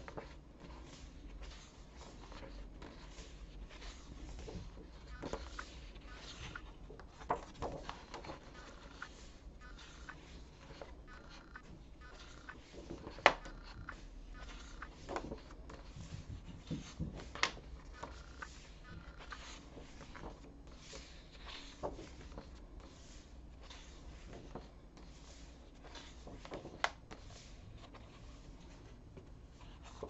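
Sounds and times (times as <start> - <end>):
paper pages turning: 0.0 - 30.0.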